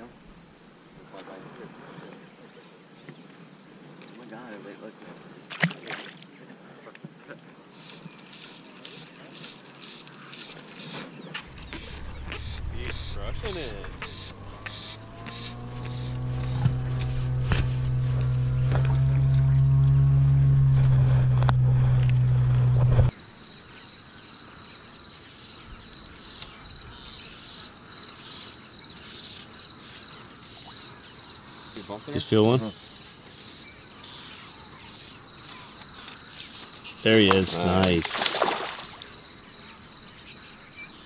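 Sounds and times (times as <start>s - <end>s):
insect raspy chirps: 5.2s - 20.6s, 23.1s - 41.0s.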